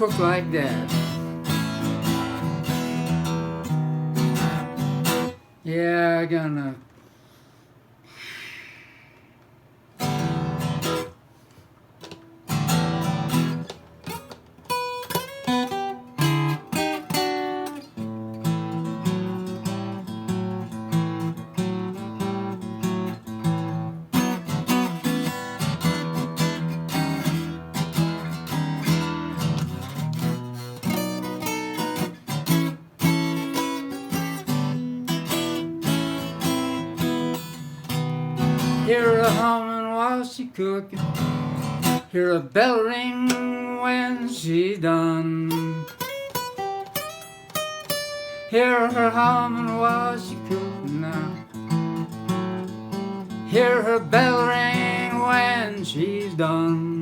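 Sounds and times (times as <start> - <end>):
acoustic guitar blues: 0.0 - 6.9, 9.9 - 57.0.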